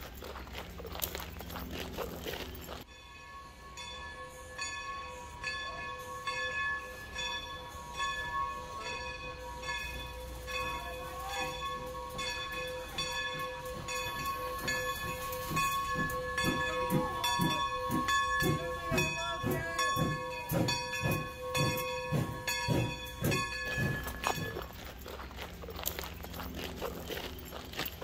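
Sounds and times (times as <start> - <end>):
locomotive bell ringing: 0.0 - 28.0.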